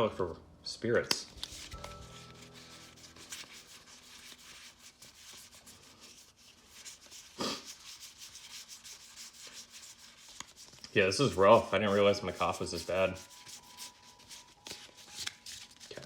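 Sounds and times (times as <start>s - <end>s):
trading cards flipping and sliding: 1.1s - 16.0s.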